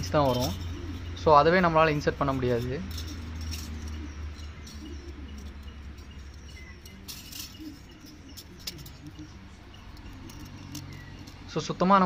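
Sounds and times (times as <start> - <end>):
steady low hum: 0.0 - 11.6
light metallic clicks and clinks: 0.0 - 12.0.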